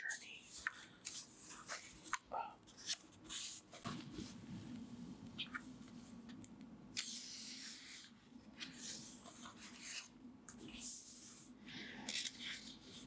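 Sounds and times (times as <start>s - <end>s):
book pages rustling: 0.1s - 13.0s.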